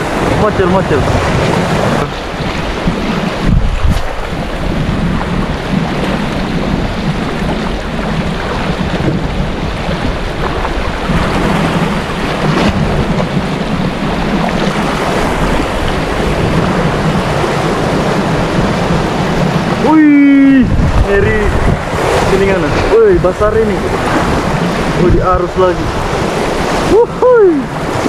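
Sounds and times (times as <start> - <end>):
waves breaking over rocks: 0.0 - 28.0
wind rumbling on microphone: 0.0 - 28.0.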